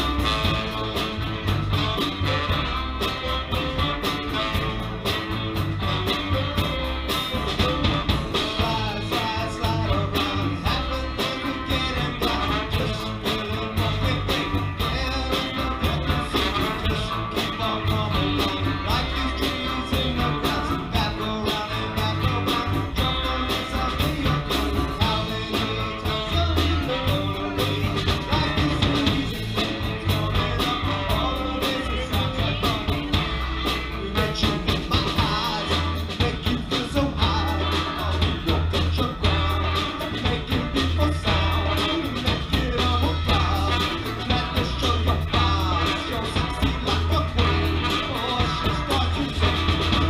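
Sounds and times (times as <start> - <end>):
live band playing: 0.0 - 50.0
person singing: 5.8 - 50.0.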